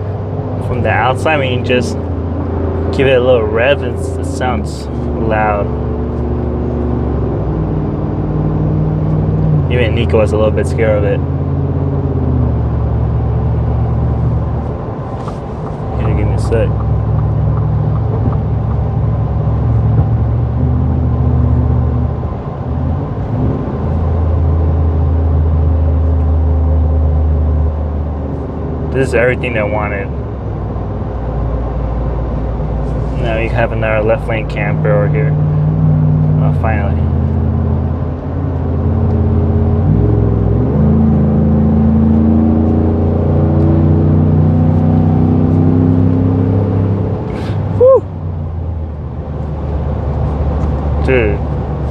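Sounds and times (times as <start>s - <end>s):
car engine accelerating hard: 0.0s - 51.9s
deep exhaust note while driving: 0.0s - 51.9s.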